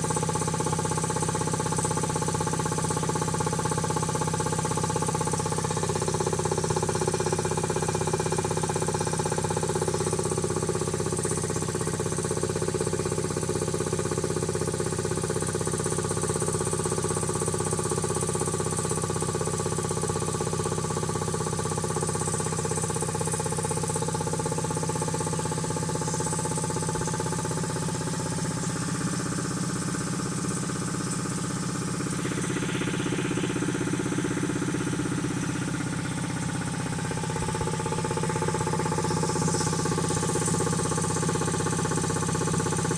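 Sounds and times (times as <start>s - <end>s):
air compressor pump running: 0.0s - 42.9s.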